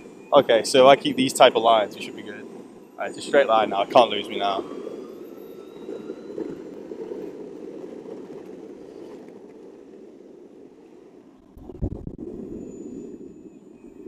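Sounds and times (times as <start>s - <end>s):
wheel rumble on road: 0.0s - 14.0s.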